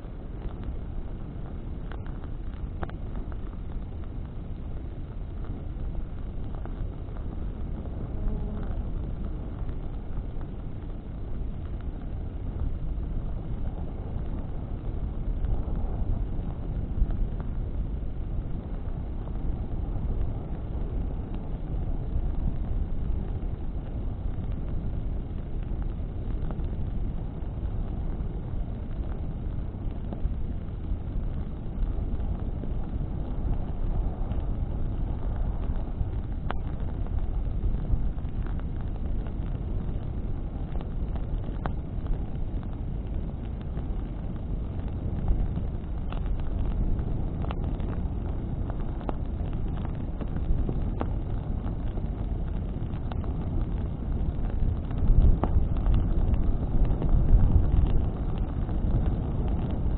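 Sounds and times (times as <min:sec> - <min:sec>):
burning wood crackling and popping: 0:00.0 - 0:59.9
wind rumbling: 0:00.0 - 0:59.9.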